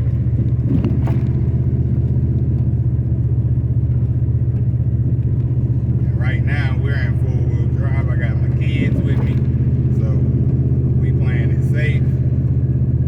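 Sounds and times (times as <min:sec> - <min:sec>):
vehicle engine and tyres on snow: 0:00.0 - 0:13.0.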